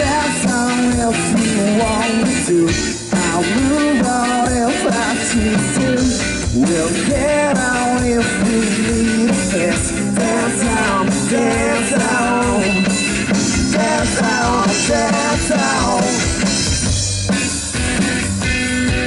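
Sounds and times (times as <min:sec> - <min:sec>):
man singing: 0:00.0 - 0:16.5
rock band playing: 0:00.0 - 0:19.0.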